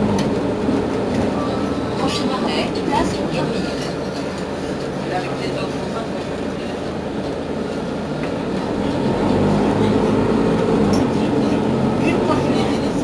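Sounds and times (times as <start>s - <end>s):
bus engine from inside cabin: 0.0s - 13.0s.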